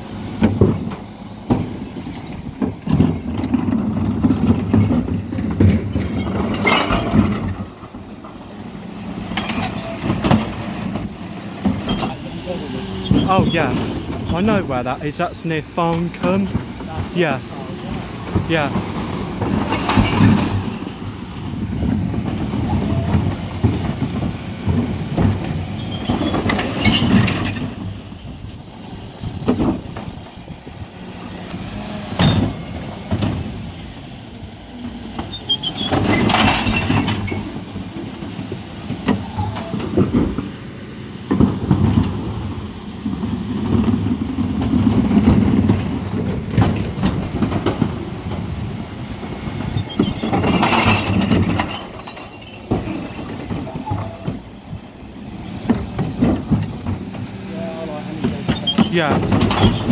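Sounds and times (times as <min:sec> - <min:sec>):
diesel engine running: 0:00.0 - 0:59.9
bins knocking and clattering: 0:00.3 - 0:08.4, 0:09.3 - 0:20.9, 0:21.6 - 0:28.0, 0:29.3 - 0:30.3, 0:35.2 - 0:40.6, 0:41.2 - 0:54.8, 0:55.5 - 0:59.9.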